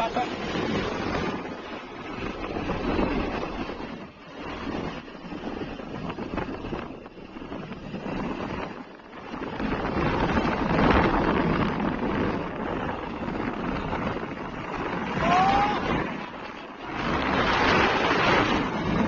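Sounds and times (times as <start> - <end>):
road traffic: 0.0 - 19.0
wind buffeting microphone: 0.0 - 19.0.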